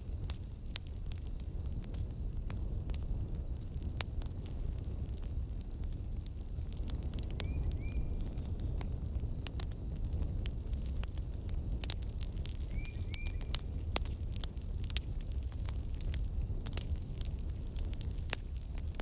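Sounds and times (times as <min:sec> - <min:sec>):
fire low rumble: 0:00.0 - 0:19.0
wood fire crackling and popping: 0:00.0 - 0:19.0.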